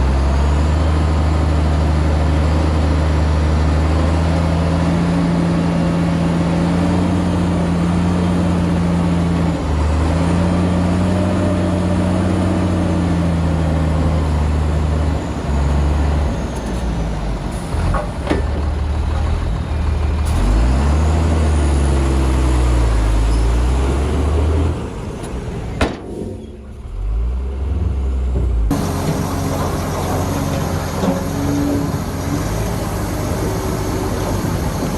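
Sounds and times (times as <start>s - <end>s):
heavy diesel engine under load: 0.0s - 34.9s.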